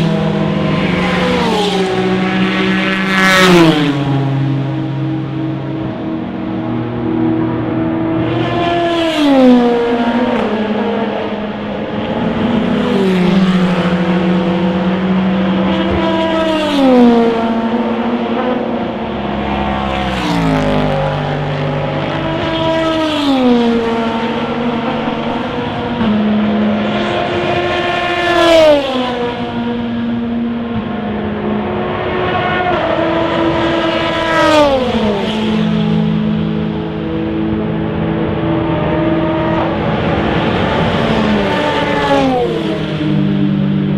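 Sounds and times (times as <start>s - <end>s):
engines running steadily: 0.0s - 43.9s
racing cars passing at speed: 0.0s - 43.9s.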